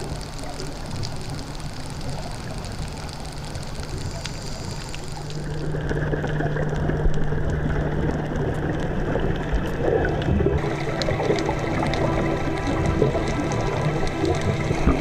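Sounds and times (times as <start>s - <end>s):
underwater bubbles gurgling: 0.0s - 15.0s.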